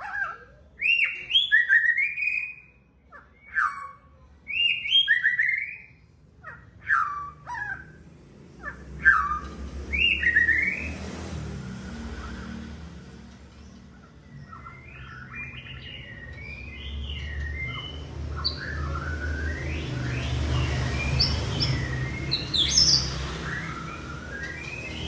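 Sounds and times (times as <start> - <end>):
bird singing: 0.0 - 8.0, 8.6 - 25.0.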